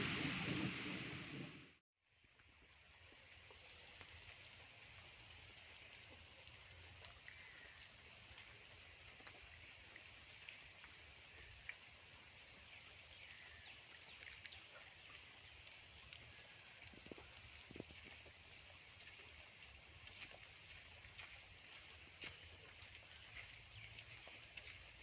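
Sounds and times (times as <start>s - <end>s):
faint steady rain: 0.0s - 25.0s
water drips: 2.2s - 25.0s.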